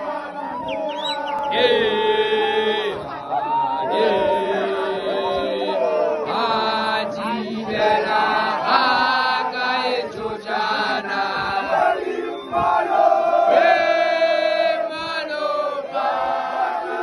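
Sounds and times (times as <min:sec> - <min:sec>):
men chanting a song: 0:00.0 - 0:17.0.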